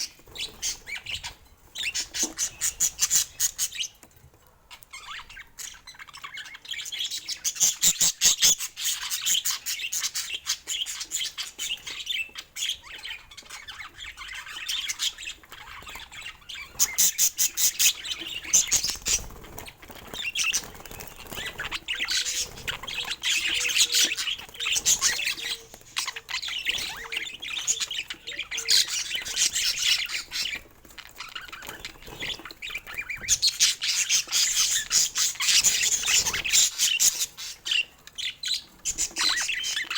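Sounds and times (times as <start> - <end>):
budgerigars chattering and squawking: 0.0 - 4.1, 4.7 - 39.9.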